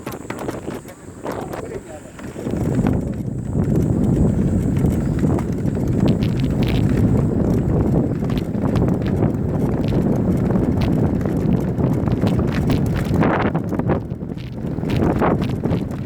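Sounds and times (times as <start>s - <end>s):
bike tyres on dirt: 0.0s - 16.0s.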